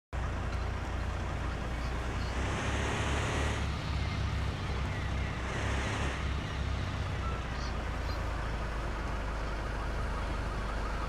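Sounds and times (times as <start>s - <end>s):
truck engine rumble: 0.1s - 11.0s.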